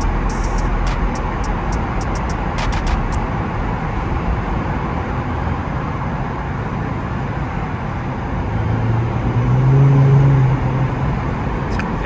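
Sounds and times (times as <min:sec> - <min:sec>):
car engine and road noise: 0:00.0 - 0:12.0
low exhaust drone: 0:00.0 - 0:12.0.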